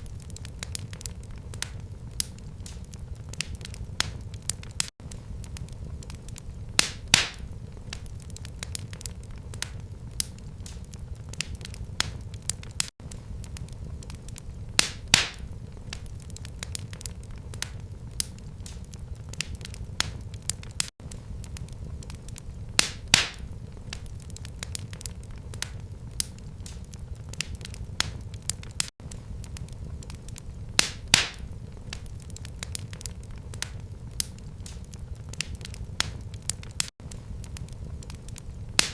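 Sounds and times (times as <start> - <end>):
fire popping: 0.0 - 38.9
low fire rumble: 0.0 - 38.9
wood fire crackling: 0.0 - 38.9.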